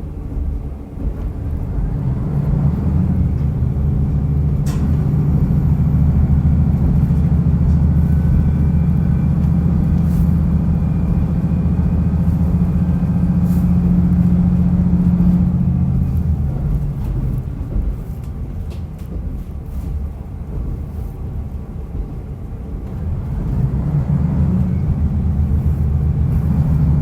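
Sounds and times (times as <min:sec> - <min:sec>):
diesel railcar engine drone: 0:00.0 - 0:27.0
train wheels rumbling on rails: 0:00.0 - 0:27.0.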